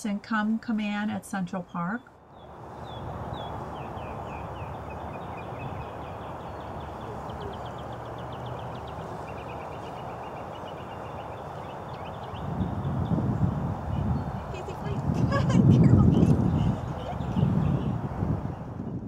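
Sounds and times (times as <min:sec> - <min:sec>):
outdoor background hiss: 0:00.0 - 0:18.6
small birds chirping and trilling: 0:01.6 - 0:19.0.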